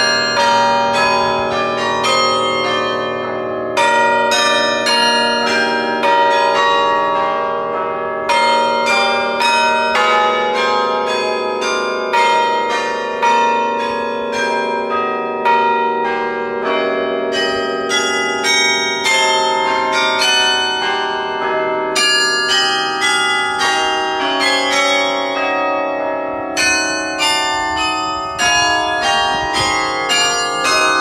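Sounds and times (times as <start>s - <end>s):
carillon bells playing a tune: 0.0s - 31.0s.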